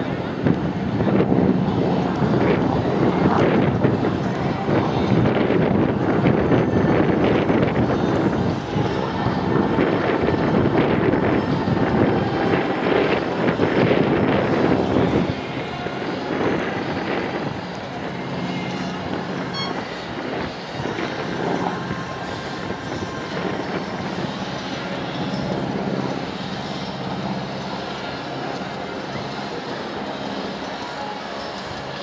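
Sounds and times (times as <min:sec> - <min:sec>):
radial engine plane droning: 0:00.0 - 0:32.0
wind buffeting microphone: 0:00.0 - 0:32.0.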